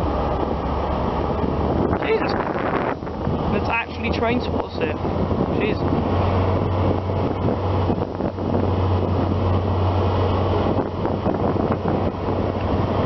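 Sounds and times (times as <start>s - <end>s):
diesel engine droning: 0.0s - 13.0s
wind buffeting microphone: 0.0s - 13.0s.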